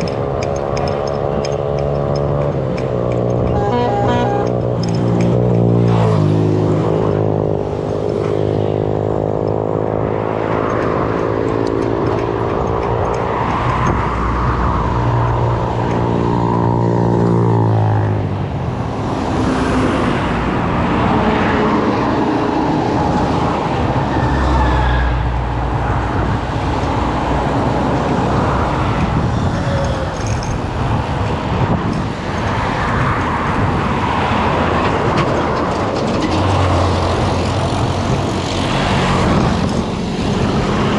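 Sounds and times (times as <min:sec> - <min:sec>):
road noise: 0:00.0 - 0:40.9.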